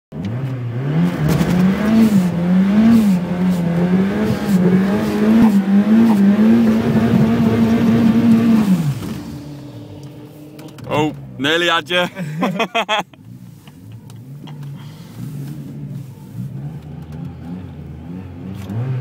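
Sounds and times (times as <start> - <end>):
car engine revving: 0.1 - 19.0.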